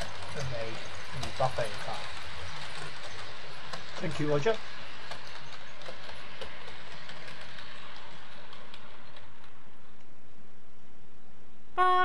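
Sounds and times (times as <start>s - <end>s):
wheels clicking over rail joints: 0.0s - 10.2s
model train electric whir: 0.0s - 10.4s.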